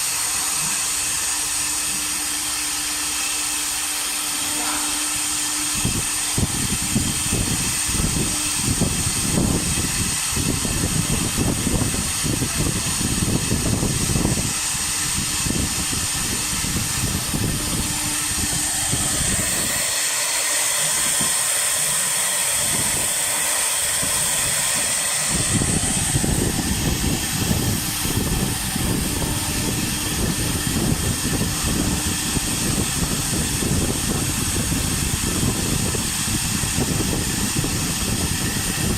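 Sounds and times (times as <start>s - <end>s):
bit cutting rough rumble: 0.0s - 38.9s
router spindle whine and fan hiss: 0.0s - 38.9s.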